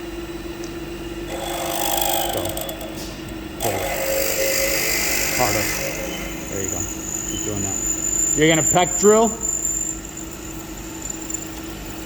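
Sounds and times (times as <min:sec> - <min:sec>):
milling machine spindle humming: 0:00.0 - 0:12.0
drill bit cutting metal: 0:01.3 - 0:03.0, 0:03.6 - 0:12.0.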